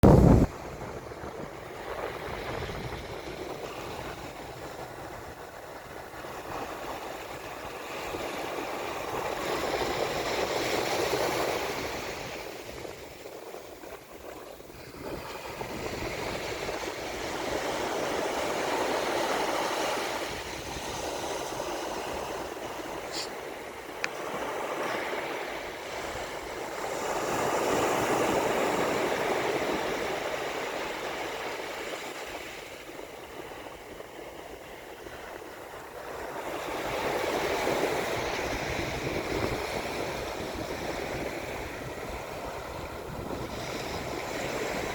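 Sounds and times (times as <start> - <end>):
waves washing onto beach: 0.0 - 44.9.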